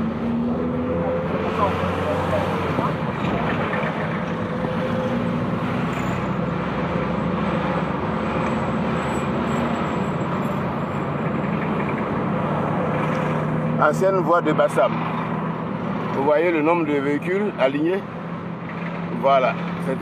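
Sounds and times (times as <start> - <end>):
car engine hum: 0.0 - 20.0
road noise: 0.0 - 20.0.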